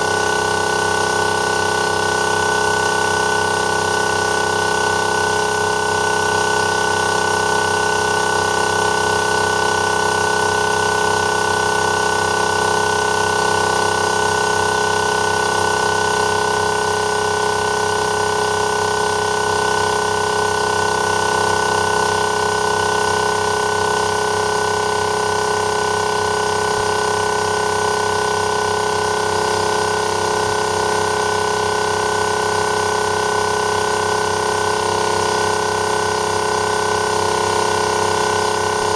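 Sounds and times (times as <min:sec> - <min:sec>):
air compressor droning: 0:00.0 - 0:38.9.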